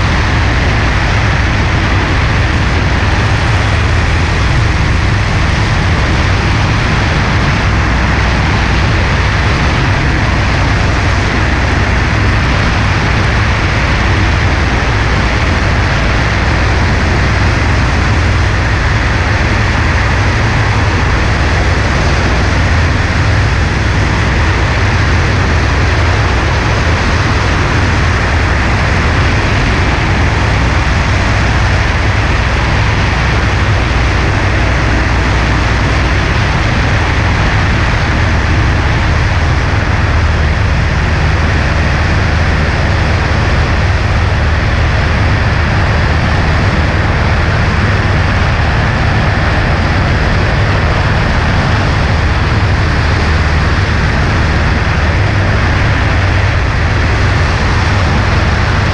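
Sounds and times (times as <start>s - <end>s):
propeller aircraft engine drone: 0.0s - 58.9s
rushing airflow: 0.0s - 58.9s.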